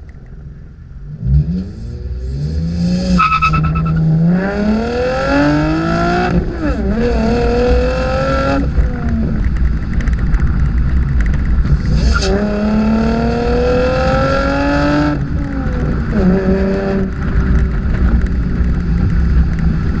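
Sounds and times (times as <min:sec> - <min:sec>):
car engine accelerating through gears: 0:01.1 - 0:09.5, 0:11.6 - 0:20.0.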